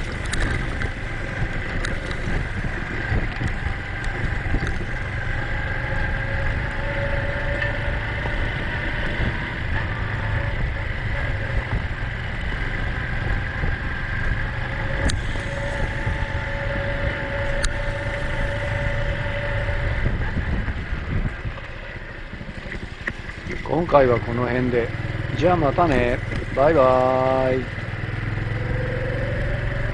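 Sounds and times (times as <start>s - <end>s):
motorcycle engine running: 0.0s - 29.9s
wind rumble on microphone: 0.0s - 29.9s.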